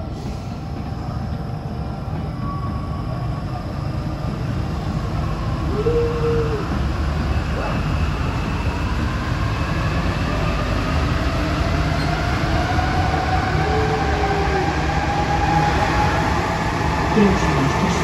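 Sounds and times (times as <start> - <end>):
metro train running gear rumble: 0.0 - 18.0.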